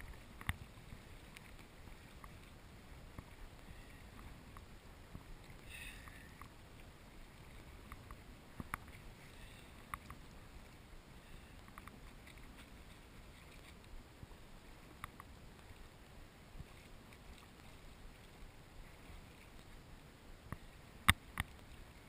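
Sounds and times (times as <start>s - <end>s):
water sloshing around kayak: 0.0s - 22.0s.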